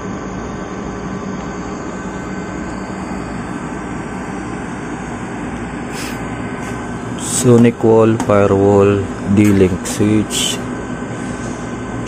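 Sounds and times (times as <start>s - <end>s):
cooling fans whirring: 0.0s - 12.0s
faint hum: 0.0s - 12.0s.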